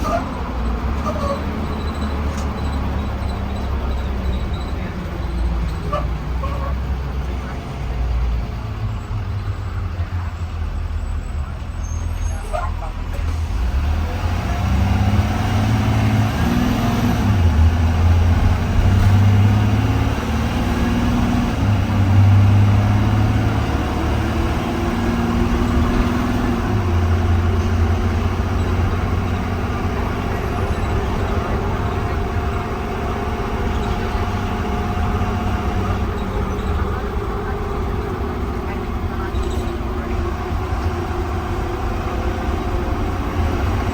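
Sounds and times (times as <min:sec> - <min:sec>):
bus engine accelerating: 0:00.0 - 0:43.9.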